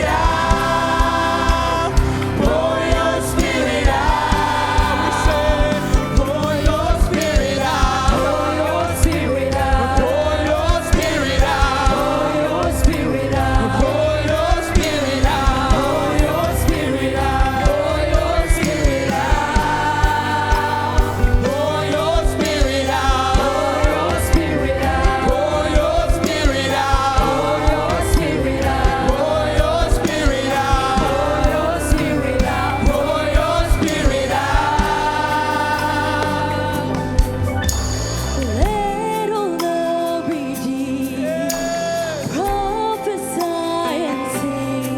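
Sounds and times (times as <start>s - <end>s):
steady drum beat: 0.0s - 39.7s
bass: 0.0s - 44.9s
choir singing: 0.0s - 44.9s
keyboard chords: 0.0s - 44.9s.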